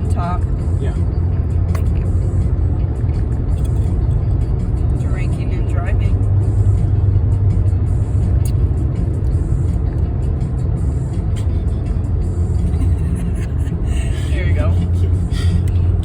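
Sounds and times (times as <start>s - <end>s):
car engine and tyres rumbling: 0.0s - 16.0s
music playing: 0.0s - 16.0s.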